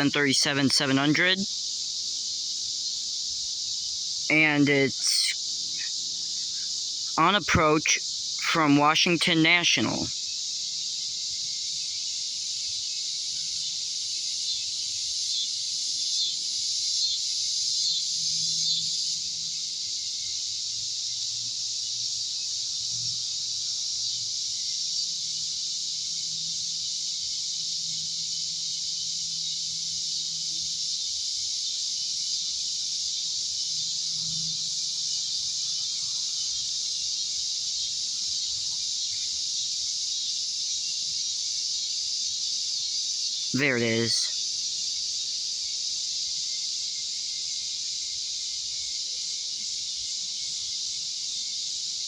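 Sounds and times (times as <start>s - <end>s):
insects buzzing: 0.0s - 7.2s, 8.0s - 8.4s, 9.8s - 52.0s.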